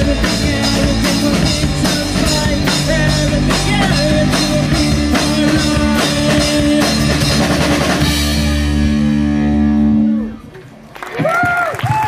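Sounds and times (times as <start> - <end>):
rock band playing live: 0.0 - 10.7.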